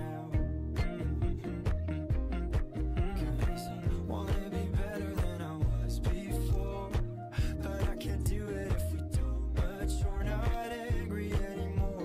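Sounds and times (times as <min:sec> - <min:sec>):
pop song drum beat and bass: 0:00.0 - 0:12.0.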